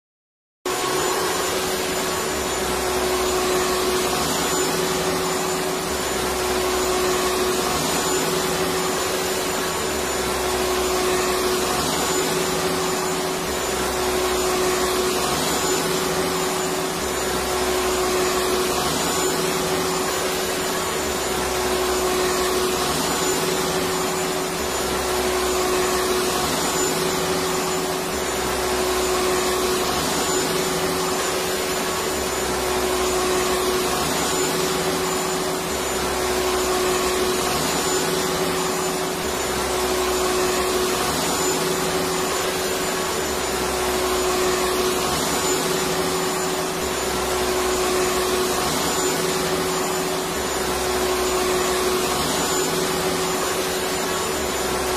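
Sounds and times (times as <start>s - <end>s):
vacuum cleaner motor whirring: 0.7s - 54.9s.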